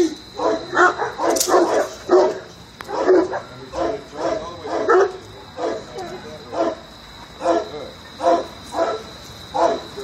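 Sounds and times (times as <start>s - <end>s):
puppy barking: 0.4s - 6.8s, 7.4s - 10.0s.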